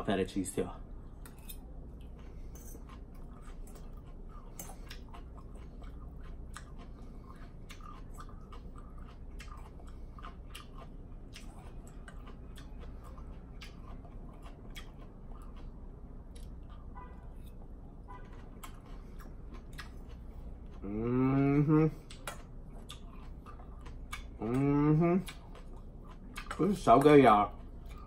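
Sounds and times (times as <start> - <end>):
person chewing and crunching salad: 0.8 - 28.0.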